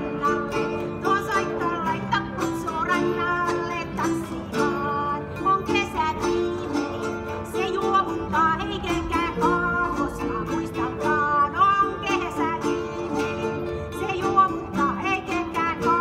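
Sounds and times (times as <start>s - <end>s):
harp and lutes playing: 0.0s - 16.0s
woman singing: 0.0s - 16.0s.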